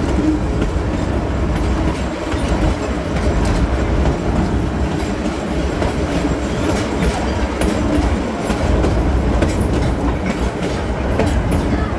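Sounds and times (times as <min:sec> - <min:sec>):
diesel locomotive engine rumble: 0:00.0 - 0:11.9
wheels clicking over track: 0:00.0 - 0:11.9.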